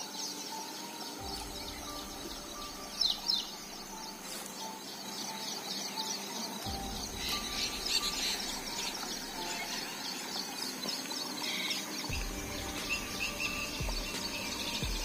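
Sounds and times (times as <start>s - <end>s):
small birds chirping: 0.0s - 15.0s
steady outdoor hiss: 0.0s - 15.0s.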